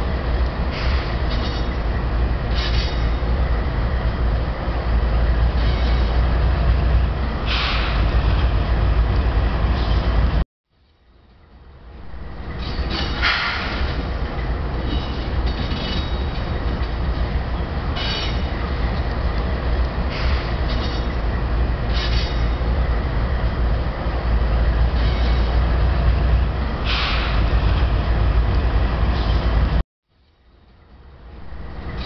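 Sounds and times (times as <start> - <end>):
diesel locomotive engines rumbling: 0.0 - 32.0.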